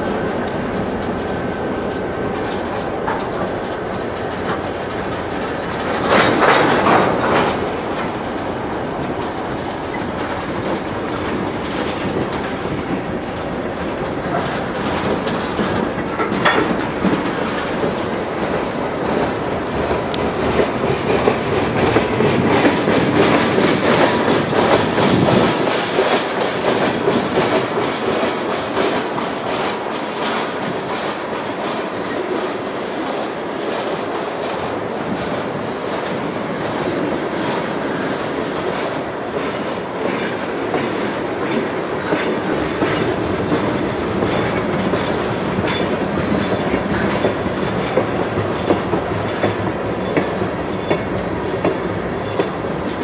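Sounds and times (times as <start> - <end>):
train wheels clicking over rail joints: 0.0 - 53.0.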